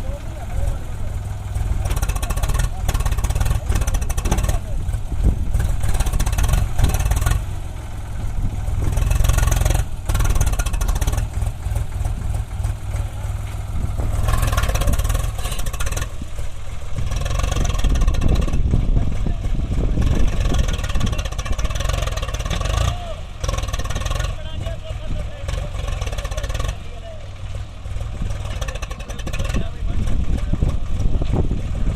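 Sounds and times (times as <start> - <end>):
heavy diesel engine revving: 0.0 - 31.9.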